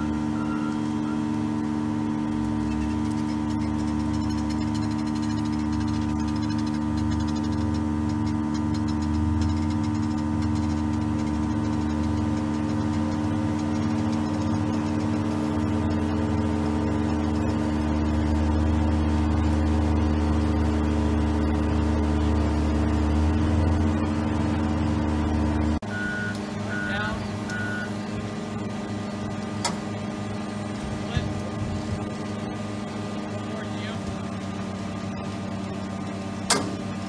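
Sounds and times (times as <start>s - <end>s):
excavator diesel engine rumbling: 0.0s - 37.0s.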